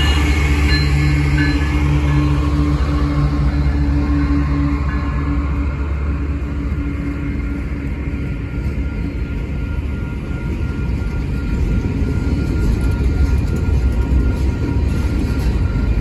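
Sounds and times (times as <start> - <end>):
diesel locomotive engine drone: 0.0 - 16.0
train wheels rumbling on rails: 0.0 - 16.0.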